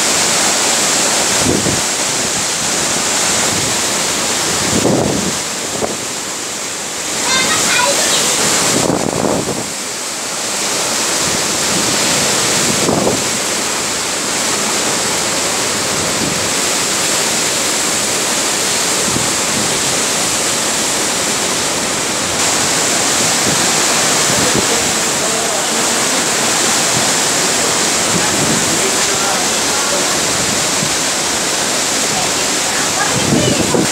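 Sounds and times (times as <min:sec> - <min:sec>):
strong wind rushing through trees: 0:00.0 - 0:33.9.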